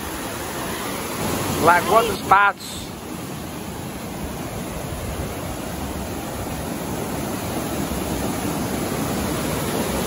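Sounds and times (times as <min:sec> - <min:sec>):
waterfall rushing over rock: 0:00.0 - 0:10.0.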